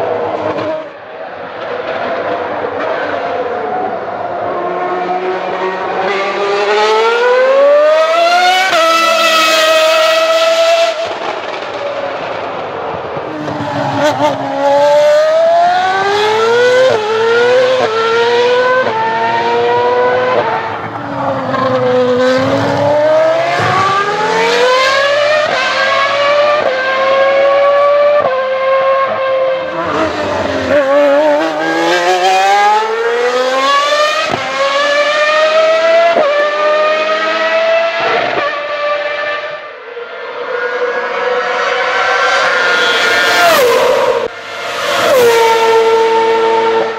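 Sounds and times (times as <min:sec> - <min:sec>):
racing car engine revving: 0:00.0 - 0:46.9.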